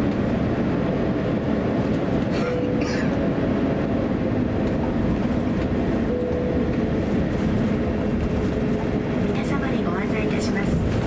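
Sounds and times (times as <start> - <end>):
jet engines low rumble: 0.0 - 11.0.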